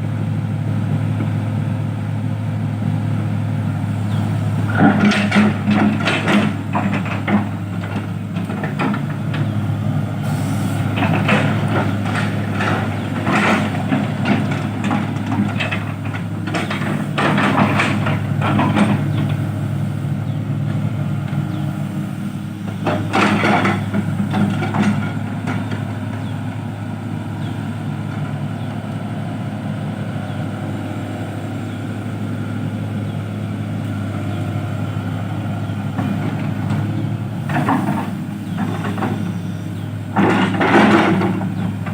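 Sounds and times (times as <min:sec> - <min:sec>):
truck diesel engine running: 0:00.0 - 0:41.9.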